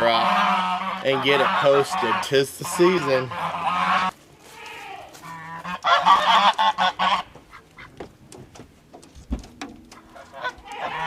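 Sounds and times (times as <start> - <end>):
geese honking: 0.0 - 8.1, 9.8 - 11.0.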